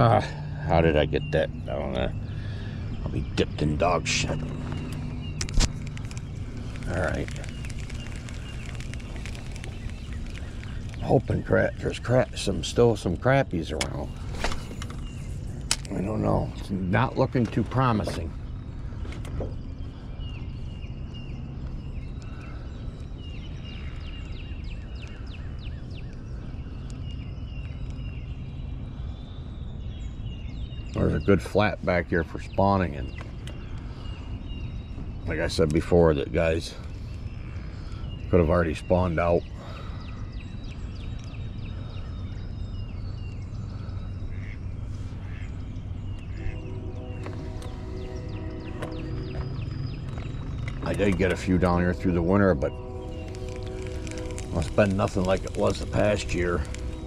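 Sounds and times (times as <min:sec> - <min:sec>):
songbirds chirping: 0:00.0 - 0:57.0
steady low rumble: 0:00.0 - 0:57.0.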